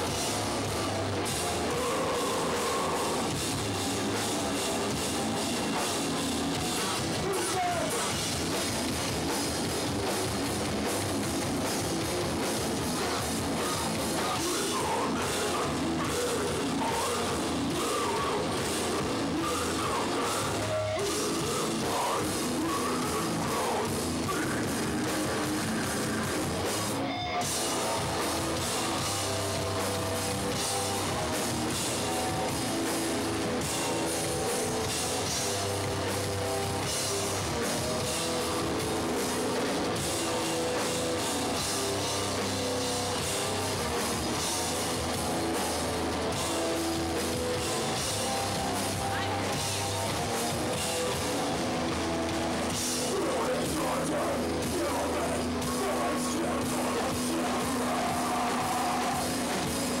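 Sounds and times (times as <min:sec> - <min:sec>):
distorted electric guitars: 0:00.0 - 1:00.0
drums: 0:00.0 - 1:00.0.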